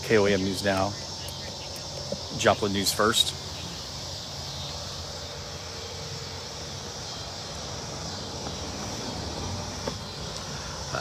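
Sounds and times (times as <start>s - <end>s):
distant road traffic rumble: 0.0s - 11.0s
insect drone: 0.0s - 11.0s.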